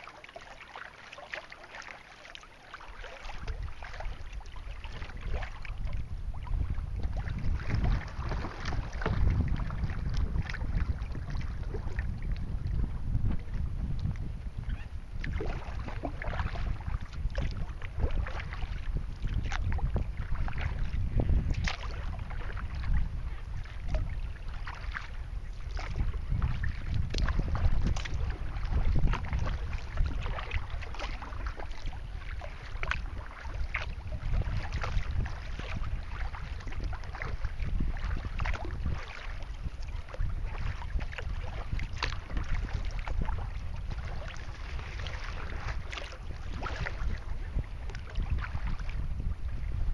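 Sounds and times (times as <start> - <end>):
waves splashing against kayak hull: 0.0 - 49.9
wind buffeting microphone: 3.2 - 49.9.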